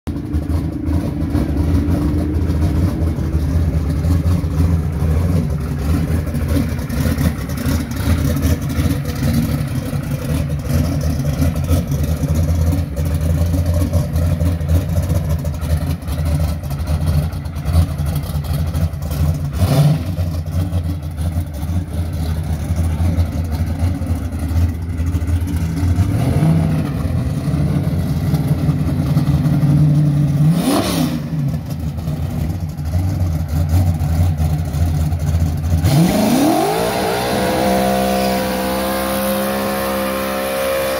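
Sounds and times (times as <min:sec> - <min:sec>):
engine idling and revving: 0:00.1 - 0:40.9.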